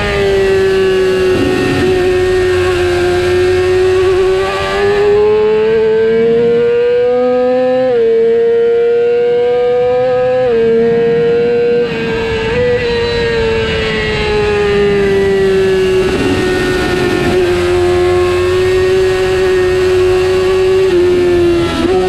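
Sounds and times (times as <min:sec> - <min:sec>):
motorcycle engine revving high: 0:00.0 - 0:22.0.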